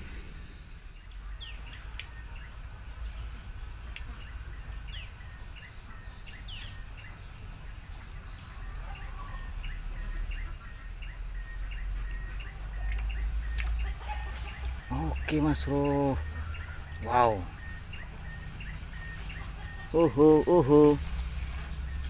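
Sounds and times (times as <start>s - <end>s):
bird chirps: 0.0s - 22.0s
insect whine: 0.0s - 22.0s.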